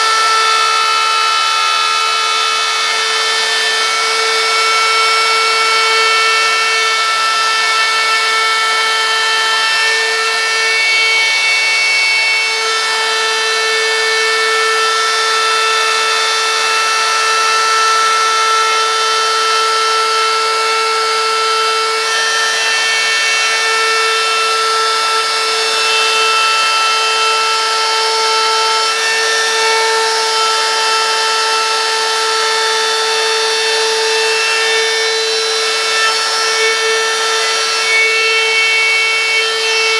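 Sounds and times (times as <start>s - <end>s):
electric router whining: 0.0s - 39.9s.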